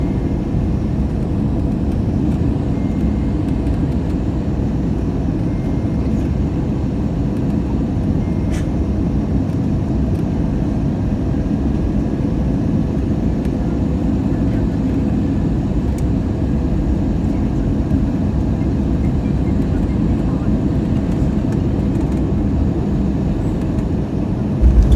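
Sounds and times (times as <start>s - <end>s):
airliner engines and airflow rumble: 0.0s - 24.9s.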